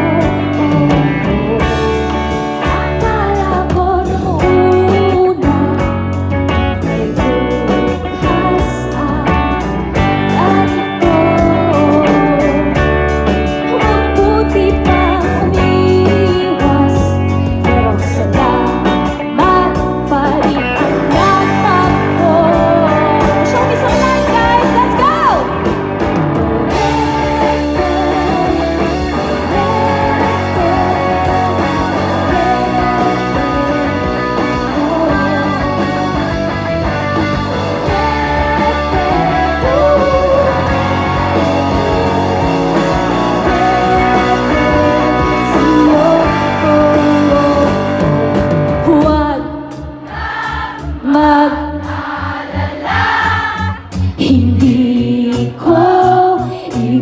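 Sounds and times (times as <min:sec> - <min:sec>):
woman singing: 0:00.0 - 0:25.6, 0:26.4 - 0:48.1, 0:48.8 - 0:49.9, 0:50.9 - 0:52.0, 0:53.3 - 0:57.0
bass guitar: 0:00.0 - 0:57.0
drums: 0:00.0 - 0:57.0
electric guitars: 0:00.0 - 0:57.0.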